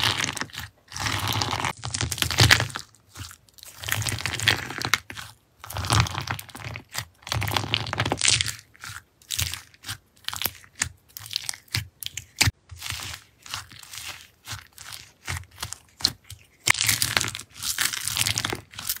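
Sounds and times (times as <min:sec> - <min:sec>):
slime crunching and crackling: 0:00.0 - 0:19.0.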